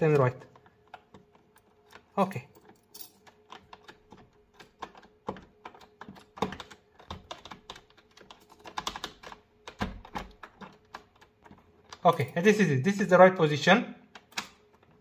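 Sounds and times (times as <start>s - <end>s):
key rattling in lock: 0.0s - 12.6s.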